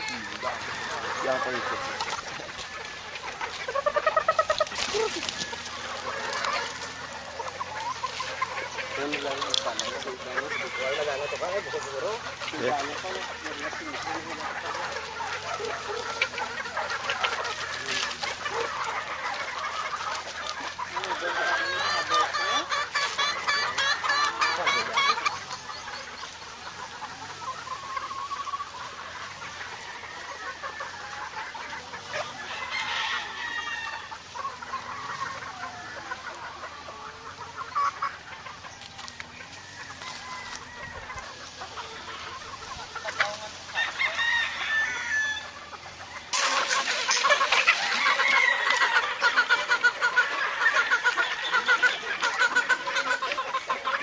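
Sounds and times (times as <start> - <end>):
chickens clucking: 0.0 - 54.0
roosters crowing: 0.0 - 54.0.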